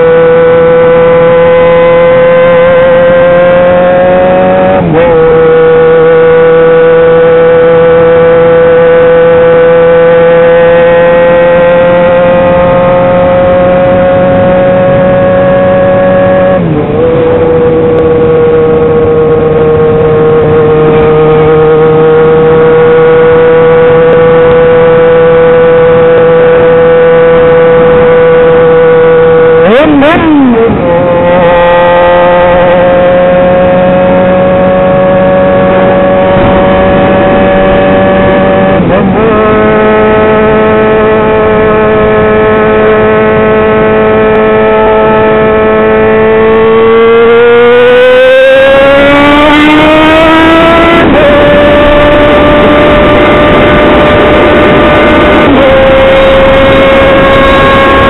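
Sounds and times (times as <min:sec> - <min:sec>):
loud motorcycle engine: 0:00.0 - 0:58.0.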